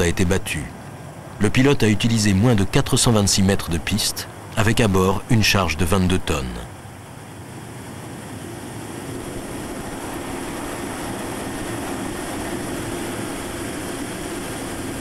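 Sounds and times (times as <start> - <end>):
jet engines at takeoff power: 0.0 - 15.0.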